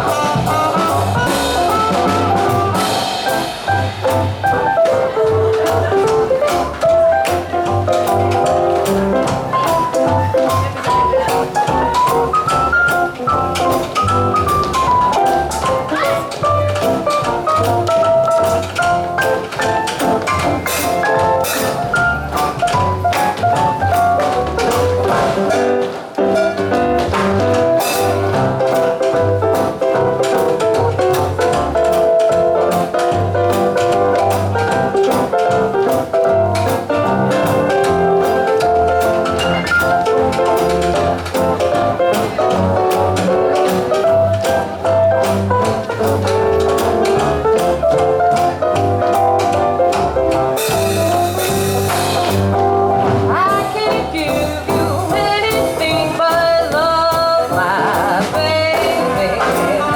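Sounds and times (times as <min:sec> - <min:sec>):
drum kit swing beat: 0:00.0 - 0:59.9
swing jazz band playing: 0:00.0 - 0:59.9
walking bass: 0:00.0 - 0:59.9.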